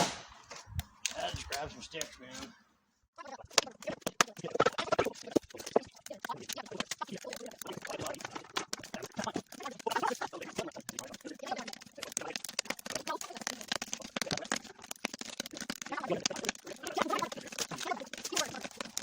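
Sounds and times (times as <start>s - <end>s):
wood sticks crackling and snapping: 0.0s - 2.5s, 3.4s - 19.0s.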